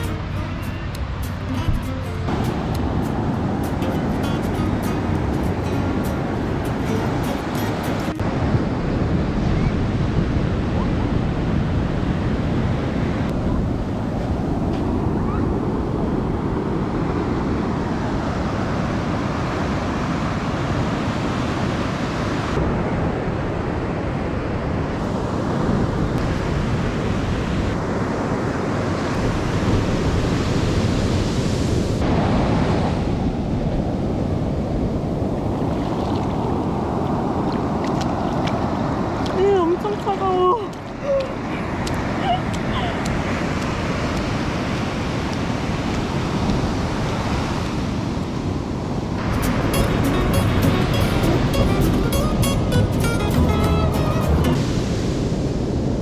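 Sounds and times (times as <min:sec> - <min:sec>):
ocean surf washing in: 0:00.0 - 0:56.0
wind buffeting microphone: 0:00.0 - 0:56.0.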